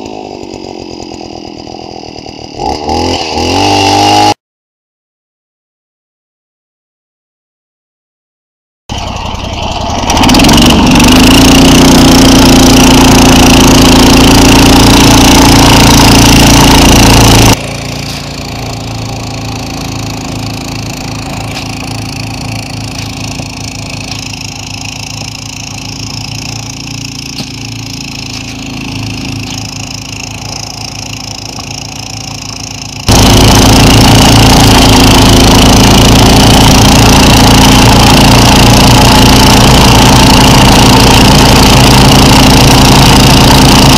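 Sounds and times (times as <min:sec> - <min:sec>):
snow machine engine revving: 0:00.0 - 0:04.4, 0:08.9 - 0:43.9.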